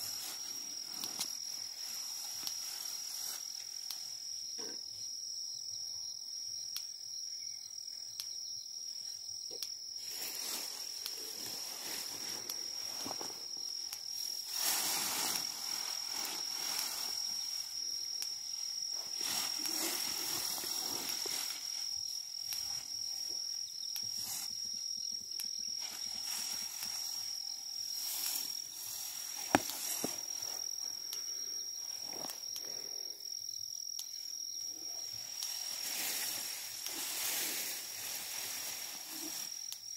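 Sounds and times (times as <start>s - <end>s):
long grass rustling: 0.0s - 4.3s, 10.0s - 24.9s, 25.5s - 33.0s, 34.2s - 39.9s
insects trilling: 0.0s - 39.9s.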